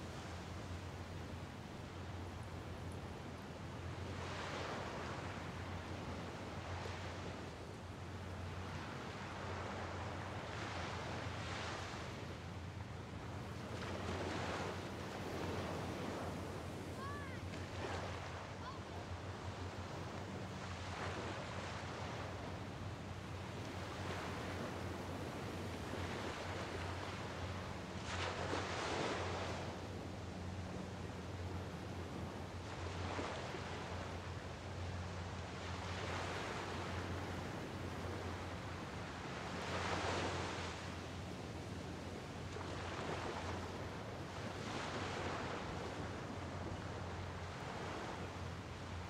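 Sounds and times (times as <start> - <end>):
small waves washing on shore: 0.0 - 49.0.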